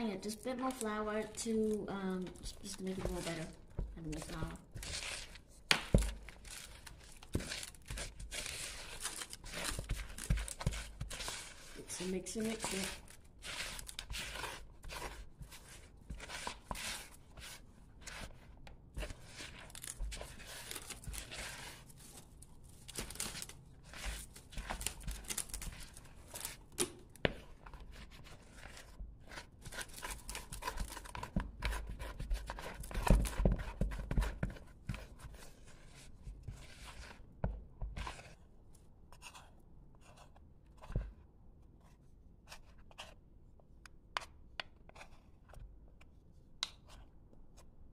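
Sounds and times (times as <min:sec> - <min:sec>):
wooden spoon stirring wet dough: 0:00.0 - 0:47.9.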